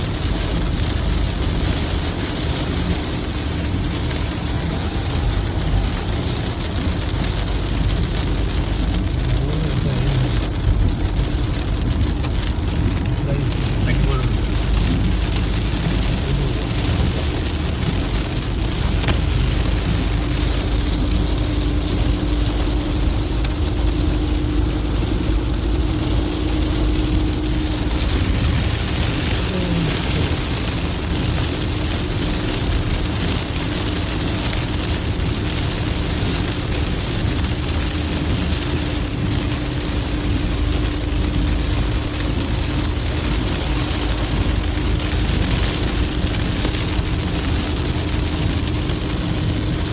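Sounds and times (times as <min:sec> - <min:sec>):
heavy rain hitting a car: 0:00.0 - 0:49.9
road and tyre noise: 0:00.0 - 0:49.9.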